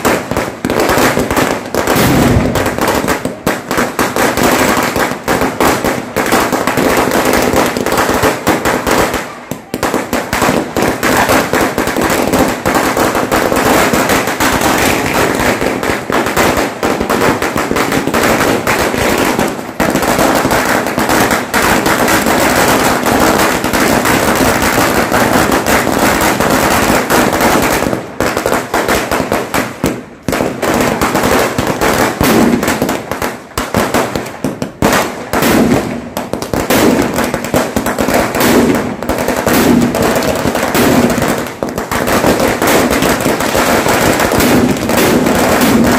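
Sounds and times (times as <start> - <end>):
firecrackers crackling: 0.0 - 45.9.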